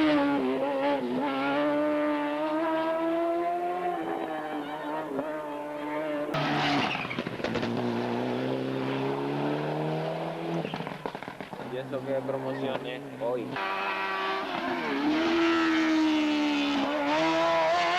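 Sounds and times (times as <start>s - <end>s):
racing car engine revving: 0.0s - 17.9s.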